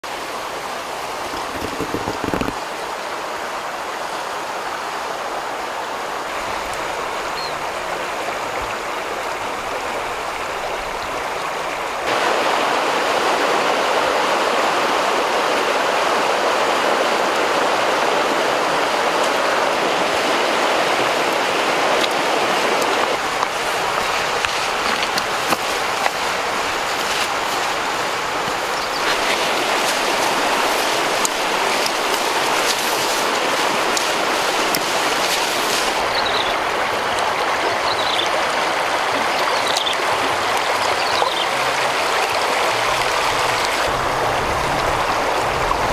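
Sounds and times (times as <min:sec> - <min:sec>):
river rushing over stones: 0:00.0 - 0:45.9.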